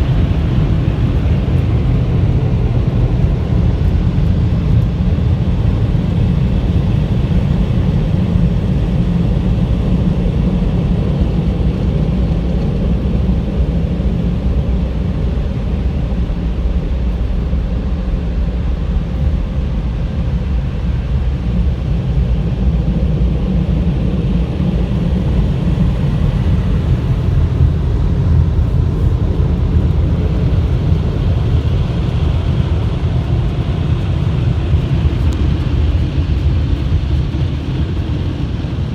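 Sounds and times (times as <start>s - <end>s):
car wash low rumble: 0.0s - 38.9s.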